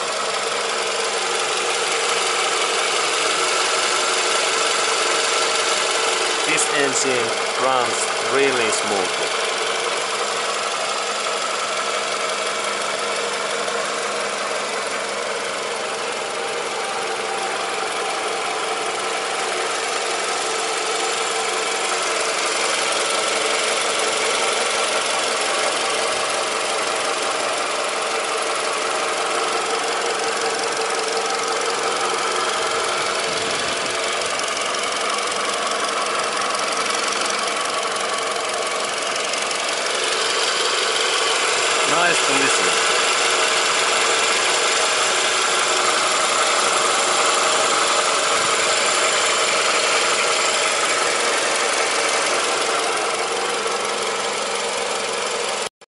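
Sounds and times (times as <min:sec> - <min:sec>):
car engine idling: 0:00.0 - 0:55.8.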